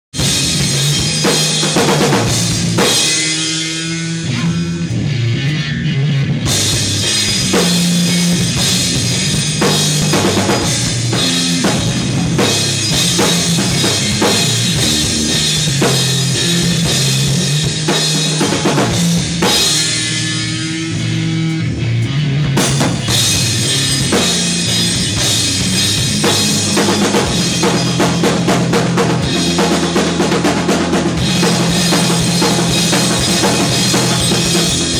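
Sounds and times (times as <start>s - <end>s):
drum kit: 0.1s - 34.9s
heavy electric guitar: 0.1s - 34.9s.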